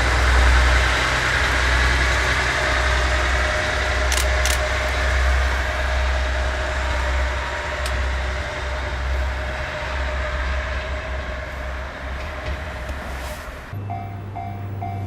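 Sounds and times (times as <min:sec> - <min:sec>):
diesel railcar engines rumbling: 0:00.0 - 0:15.0.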